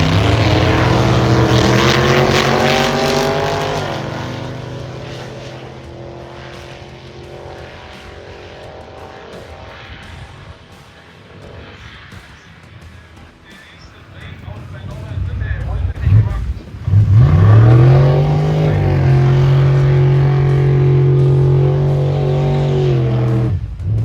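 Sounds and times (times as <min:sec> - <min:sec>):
drag racing car engine revving: 0:00.0 - 0:24.0.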